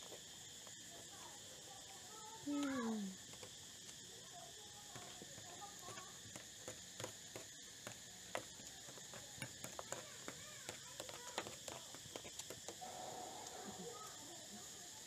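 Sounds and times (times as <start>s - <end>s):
steady high buzz: 0.0s - 15.0s.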